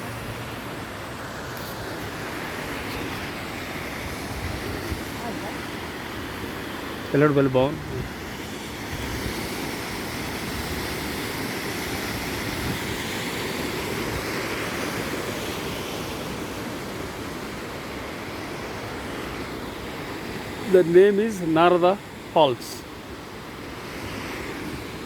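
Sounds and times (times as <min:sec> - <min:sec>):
waterfall rushing: 0:00.0 - 0:24.8.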